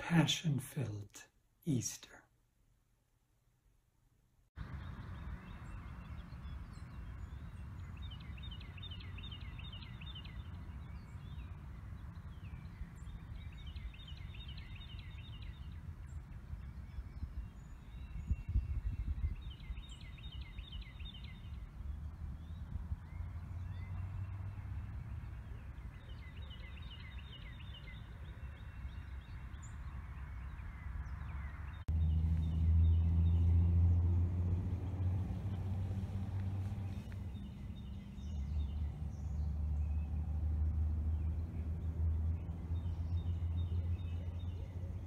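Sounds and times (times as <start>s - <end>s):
songbirds chirping: 4.6s - 45.0s.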